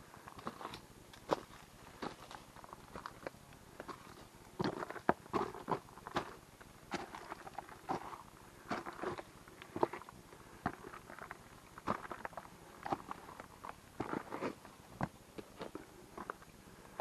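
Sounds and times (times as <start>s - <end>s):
footsteps on leaves and stones: 0.3s - 16.4s.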